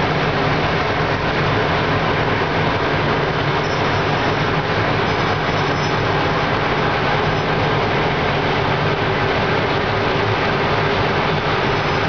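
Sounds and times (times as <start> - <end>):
diesel engine working hard: 0.0 - 12.0
milling drum grinding asphalt: 0.0 - 12.0.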